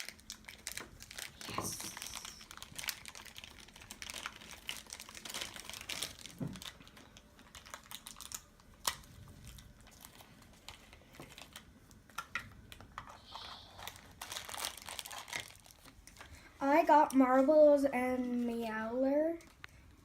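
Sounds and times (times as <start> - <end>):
packaging crinkling: 0.0 - 16.4.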